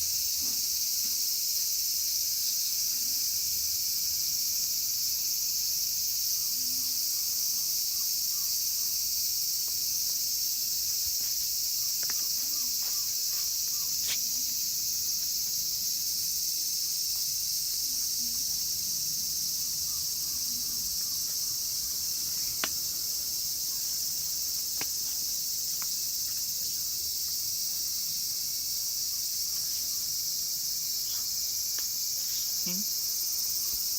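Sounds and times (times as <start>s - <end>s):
cicadas singing: 0.0s - 33.9s.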